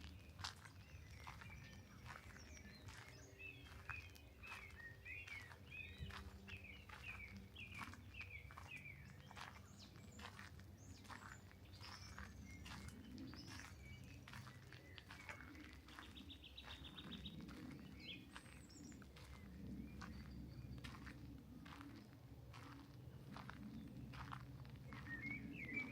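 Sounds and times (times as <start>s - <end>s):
soft footsteps: 0.0s - 25.8s
songbirds chirping: 0.0s - 25.9s.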